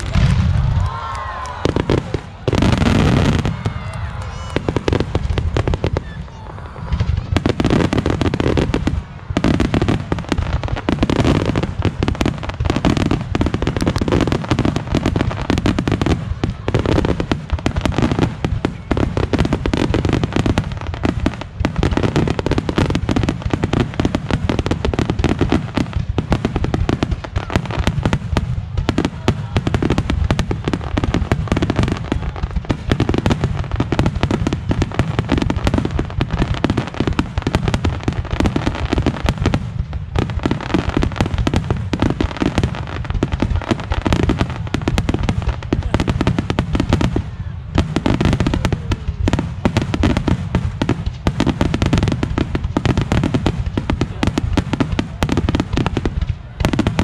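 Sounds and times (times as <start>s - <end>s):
fireworks bursting rapidly: 0.0s - 57.0s.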